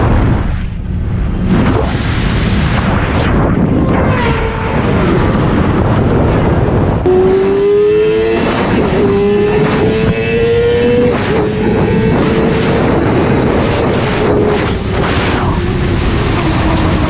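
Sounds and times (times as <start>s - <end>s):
wind rush on microphone: 0.0s - 17.0s
motorcycle engine revving: 2.8s - 17.0s.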